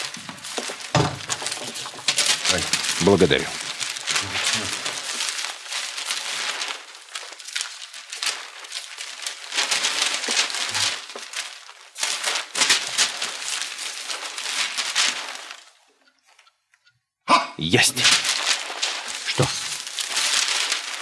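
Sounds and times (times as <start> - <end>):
newspaper rustling and crackling: 0.0 - 16.5, 17.9 - 21.0.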